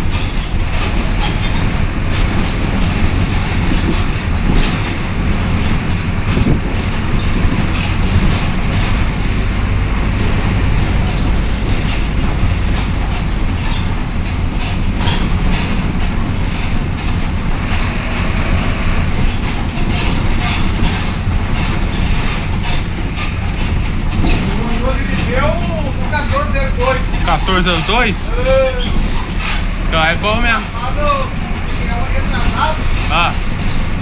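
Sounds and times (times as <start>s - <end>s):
bus engine and road drone: 0.0s - 34.0s
rattles and clicks from bus body: 0.0s - 34.0s.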